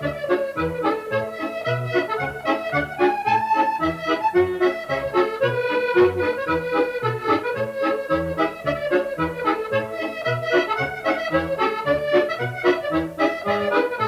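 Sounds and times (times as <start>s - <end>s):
accordion playing: 0.0s - 14.0s.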